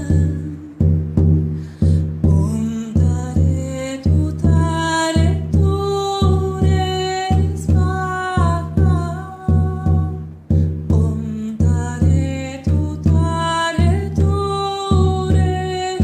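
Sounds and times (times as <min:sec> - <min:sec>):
frame drum beating: 0:00.0 - 0:16.0
person singing long notes: 0:00.0 - 0:16.0.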